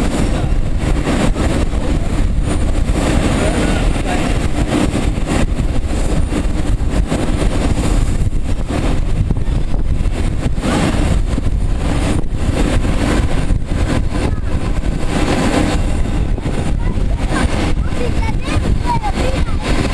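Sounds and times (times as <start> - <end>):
jet engines rumbling: 0.0 - 19.9.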